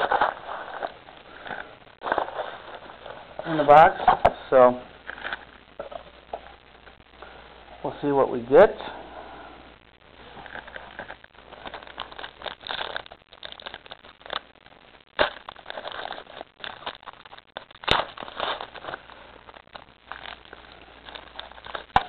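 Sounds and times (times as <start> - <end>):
foil wrappers crinkling: 0.0 - 6.0, 10.3 - 22.0.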